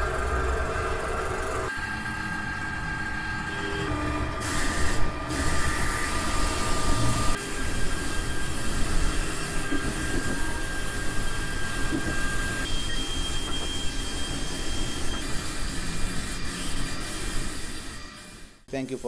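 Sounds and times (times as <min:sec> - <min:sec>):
thin whine: 0:00.0 - 0:18.6.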